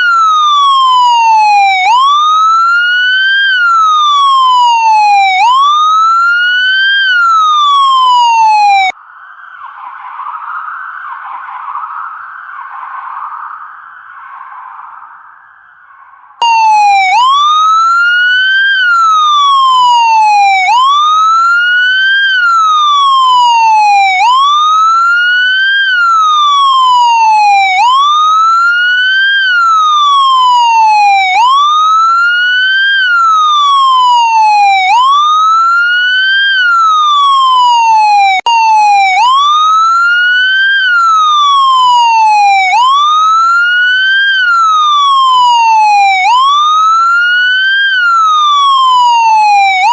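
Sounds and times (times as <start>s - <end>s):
police siren wailing: 0.0s - 15.8s, 16.4s - 49.9s.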